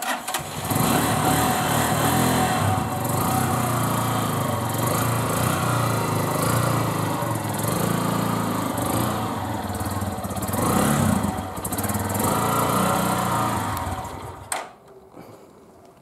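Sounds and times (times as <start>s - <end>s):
motorcycle engine running: 0.4s - 14.5s.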